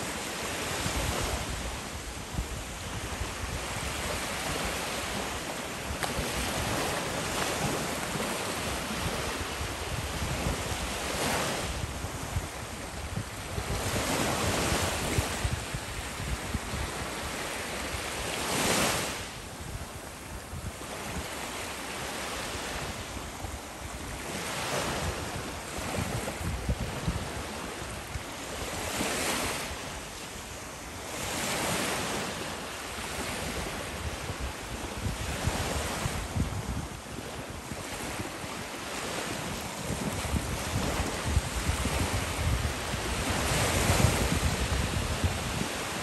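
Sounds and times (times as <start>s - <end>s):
small waves washing onto shore: 0.0s - 46.0s.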